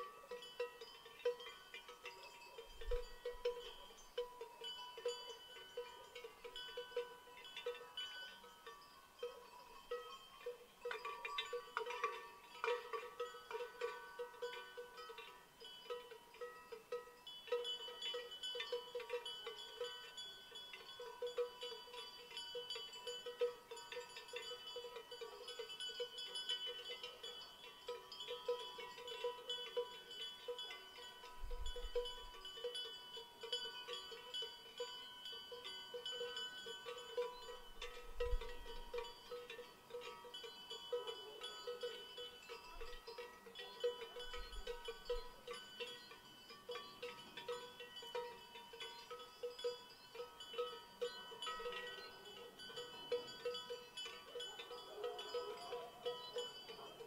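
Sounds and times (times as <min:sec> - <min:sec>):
cowbells clanking: 0:00.0 - 0:57.0.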